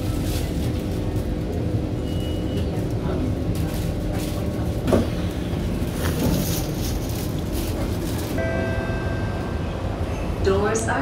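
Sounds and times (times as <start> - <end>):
train equipment humming: 0.0 - 11.0.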